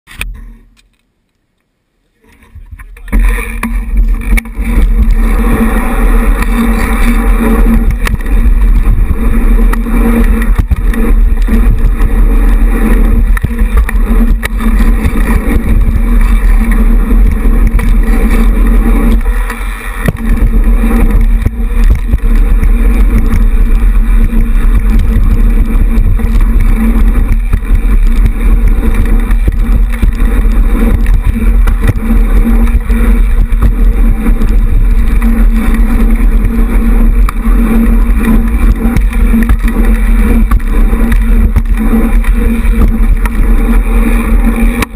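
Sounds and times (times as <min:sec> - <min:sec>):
bike tyres rolling on pavement: 0:02.2 - 0:44.9
wind buffeting microphone: 0:02.4 - 0:44.9.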